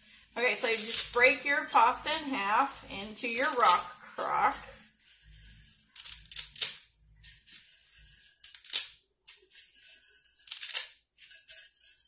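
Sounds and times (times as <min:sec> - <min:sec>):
pasta pieces rattling into pot: 0:00.0 - 0:12.0.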